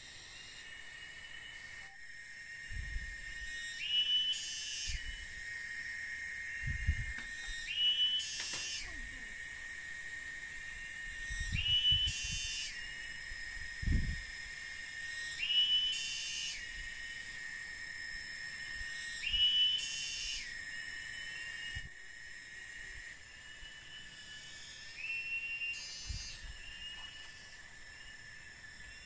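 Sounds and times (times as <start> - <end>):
insects whining and buzzing: 0.0 - 29.0.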